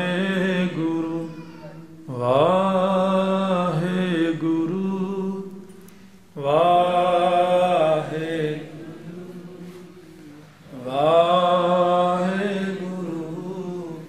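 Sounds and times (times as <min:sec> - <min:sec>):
devotional chanting: 0:00.0 - 0:14.0.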